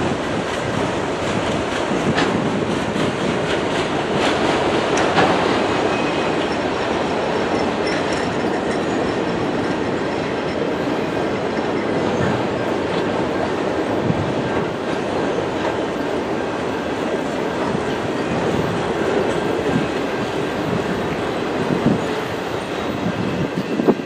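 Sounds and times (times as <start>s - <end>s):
steel wheels rumbling on rail: 0.0s - 24.0s.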